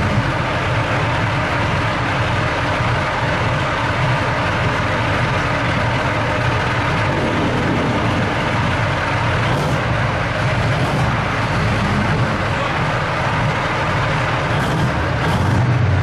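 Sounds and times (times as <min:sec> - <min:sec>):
tank diesel engine running: 0:00.0 - 0:16.0.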